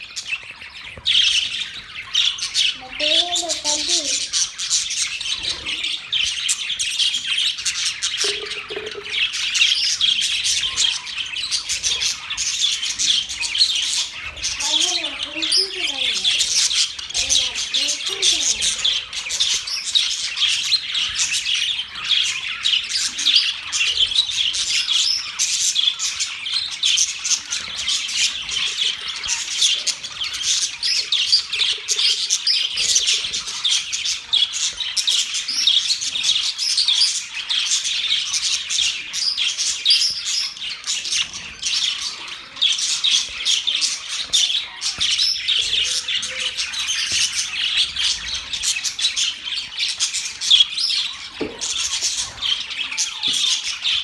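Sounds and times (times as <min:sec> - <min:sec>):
budgerigars chattering and warbling: 0:00.0 - 0:54.0.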